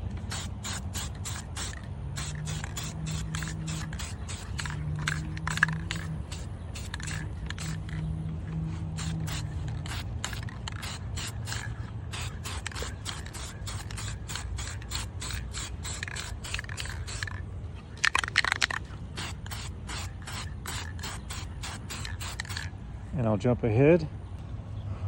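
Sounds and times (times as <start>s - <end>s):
aerosol spray can bursts: 0.2s - 8.0s, 9.0s - 17.4s, 18.0s - 22.7s.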